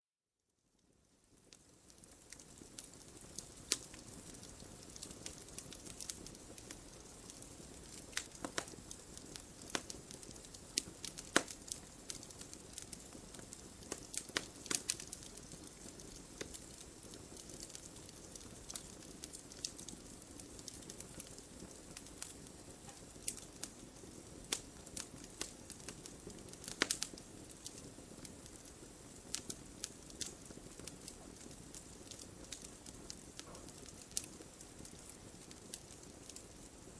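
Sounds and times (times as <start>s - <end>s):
fire crackling and popping: 0.7s - 36.9s
fire hissing: 1.7s - 36.8s.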